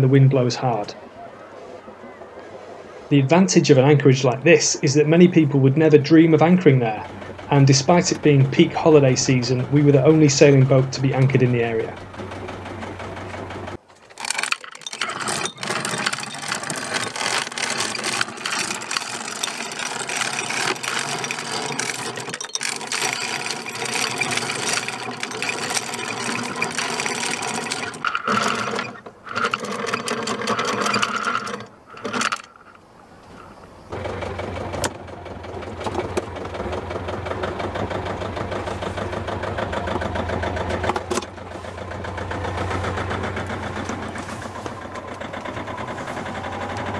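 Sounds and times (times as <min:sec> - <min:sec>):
boat engine running: 0:00.0 - 0:46.9
anchor chain rattling: 0:05.9 - 0:46.9.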